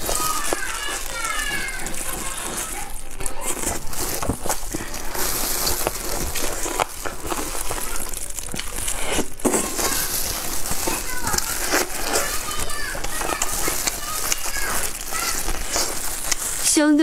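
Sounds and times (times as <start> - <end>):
chewing crunchy chicken skin: 0.0 - 16.7
foil crinkling: 0.0 - 17.0.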